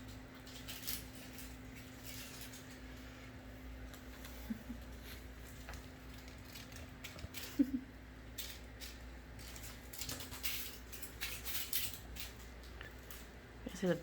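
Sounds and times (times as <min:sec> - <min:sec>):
pattering and rustling of animals: 0:00.0 - 0:13.6.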